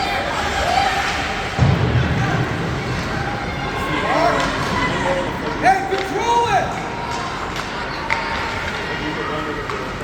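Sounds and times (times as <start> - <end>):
crowd noise: 0.0 - 10.0.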